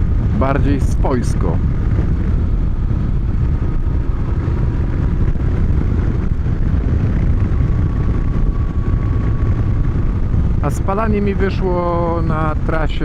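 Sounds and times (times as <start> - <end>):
motorcycle cruising with wind rumble: 0.0 - 13.0.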